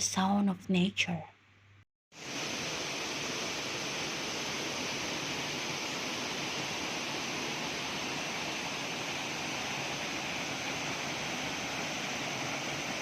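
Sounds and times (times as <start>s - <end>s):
waterfall splashing into pool: 2.2s - 13.0s.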